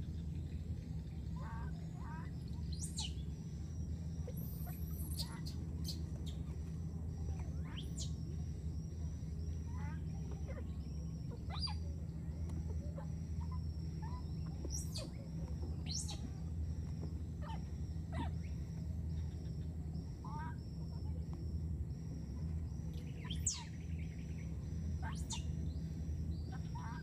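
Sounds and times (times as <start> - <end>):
birds calling: 0.0 - 27.0
low steady hum: 0.0 - 27.0
rhythmic insect chirping: 0.0 - 27.0.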